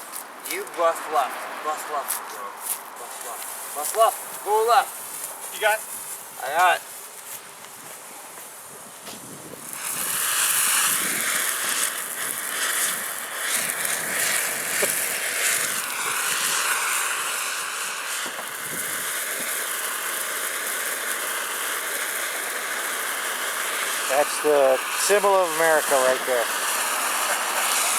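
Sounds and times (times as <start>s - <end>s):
firework spraying sparks hissing: 0.0s - 27.9s.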